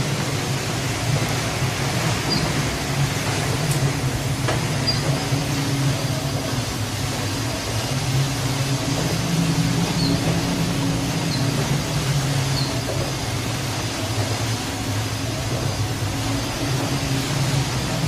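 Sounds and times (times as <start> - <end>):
rushing noise: 0.0 - 18.0
ship engine drone: 0.0 - 18.0.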